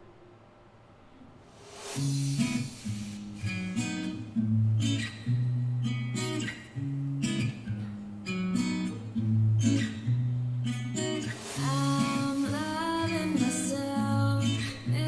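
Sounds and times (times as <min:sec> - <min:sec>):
pop song with strummed guitar: 0:02.0 - 0:15.0.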